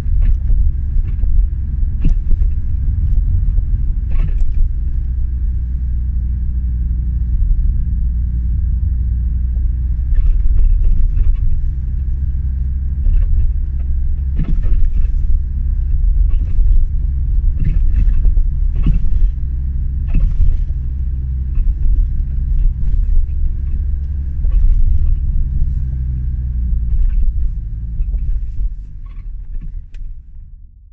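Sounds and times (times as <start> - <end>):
car axle clunking and rattling: 0.0 - 8.1, 9.4 - 30.5
low driving rumble: 0.0 - 30.9.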